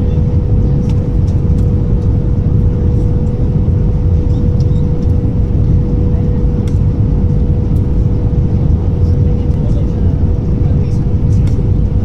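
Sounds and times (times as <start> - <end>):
aircraft engines and airflow roaring: 0.0 - 12.0
steady mid-pitched hum: 0.0 - 12.0.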